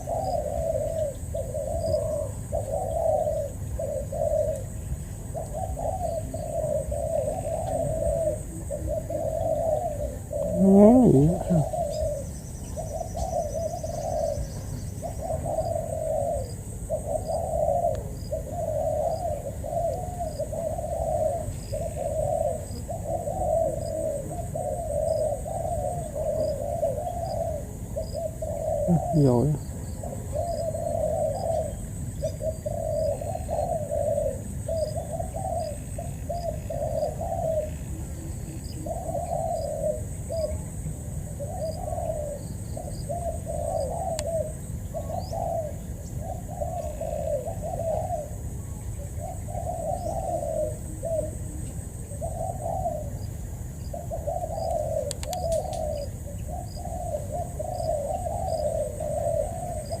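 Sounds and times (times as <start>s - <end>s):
dove cooing: 0.0s - 60.0s.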